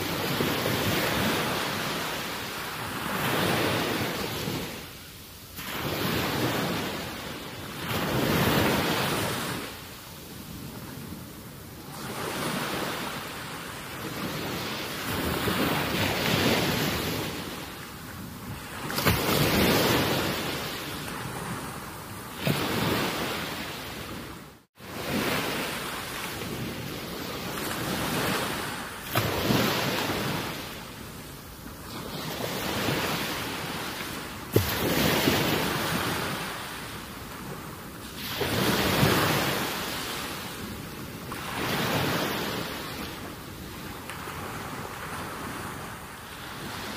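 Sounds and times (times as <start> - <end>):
water lapping at shore: 5.6 - 46.9.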